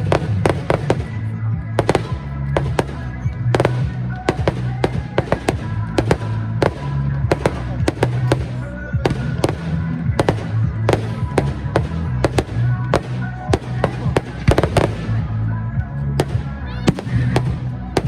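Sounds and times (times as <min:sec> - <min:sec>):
fireworks bangs and crackles: 0:00.0 - 0:18.0
loud music with bass: 0:00.0 - 0:18.0.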